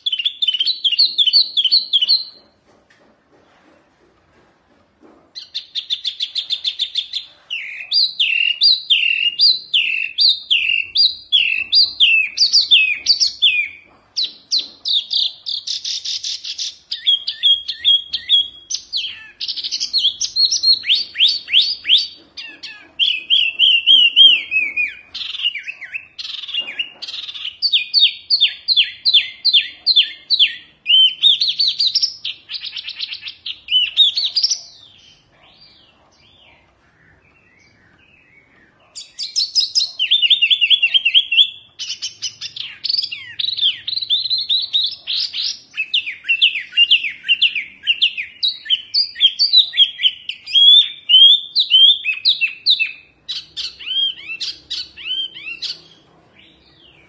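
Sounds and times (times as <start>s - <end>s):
songbird singing whistles and trills: 0.0s - 2.5s, 5.4s - 56.0s.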